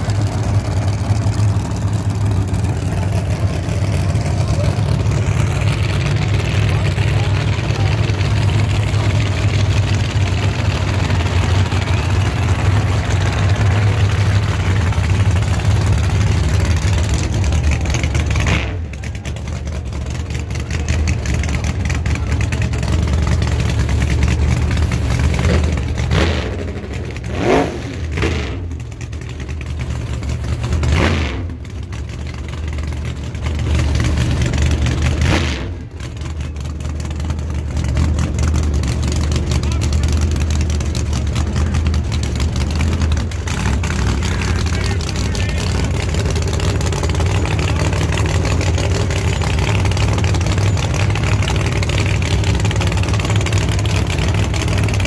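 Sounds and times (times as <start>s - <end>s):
engine throttle blips: 0.0s - 55.0s
racing car engines idling: 0.0s - 55.0s.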